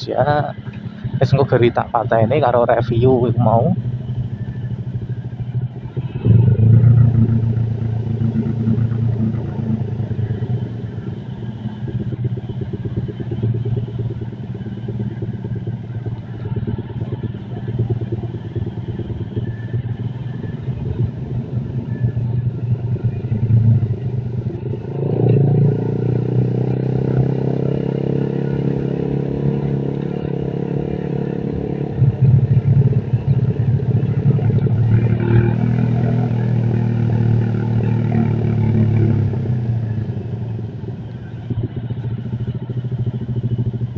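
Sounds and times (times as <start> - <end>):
small motorcycle engine: 0.0 - 43.9.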